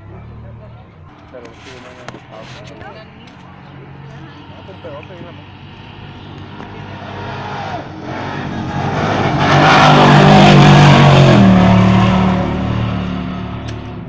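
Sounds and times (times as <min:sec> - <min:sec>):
truck engine passing by: 0:00.0 - 0:14.0
tyres rushing on dirt: 0:00.0 - 0:14.0.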